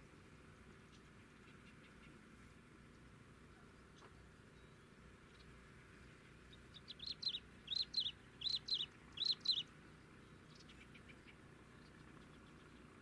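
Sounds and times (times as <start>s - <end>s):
small bird chirping: 0.7s - 2.3s, 2.9s - 13.0s.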